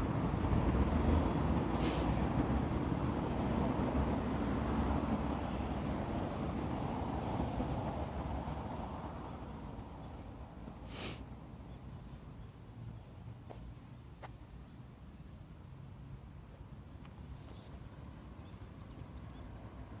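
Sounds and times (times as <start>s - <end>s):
cicadas singing: 0.0s - 20.0s.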